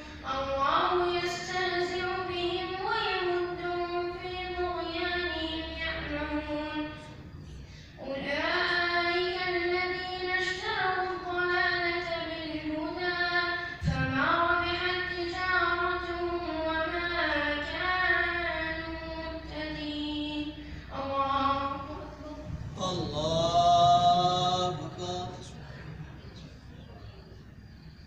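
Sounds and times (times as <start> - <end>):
boy chanting into a microphone: 0.0 - 7.2, 7.8 - 25.8.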